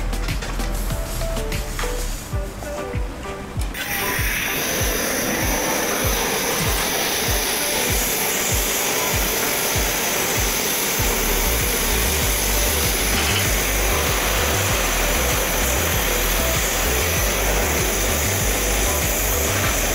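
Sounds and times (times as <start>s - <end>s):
gas welding torch hissing: 0.0s - 2.9s, 3.7s - 19.9s.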